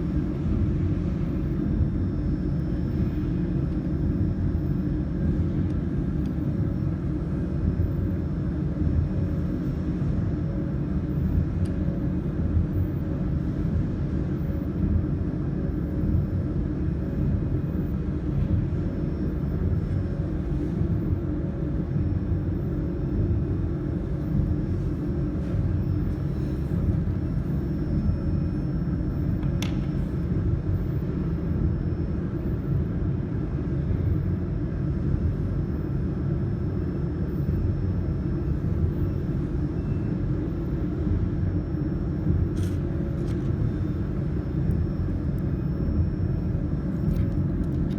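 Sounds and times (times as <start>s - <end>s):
faint hum: 0.0s - 47.9s
steady low rumble: 0.0s - 47.9s.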